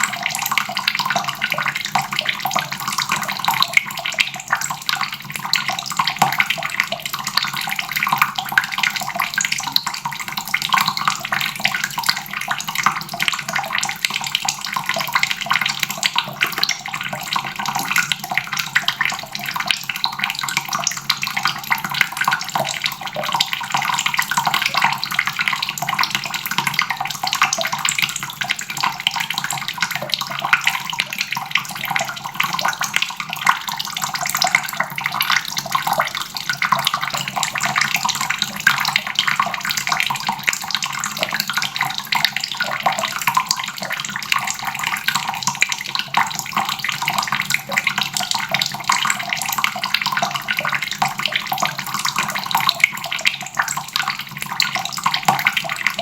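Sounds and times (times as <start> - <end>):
faucet water splashing into basin: 0.0 - 56.0.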